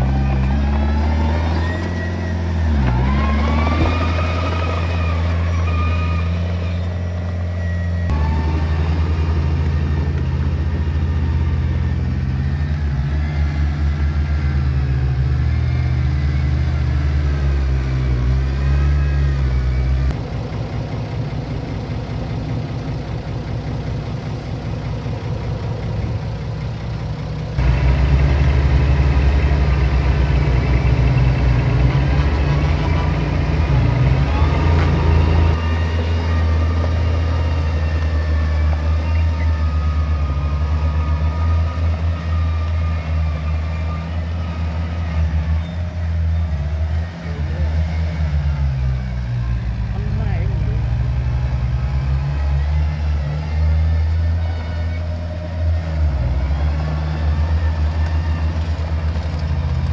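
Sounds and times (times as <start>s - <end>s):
diesel engines of earthmoving machines: 0.0s - 59.9s.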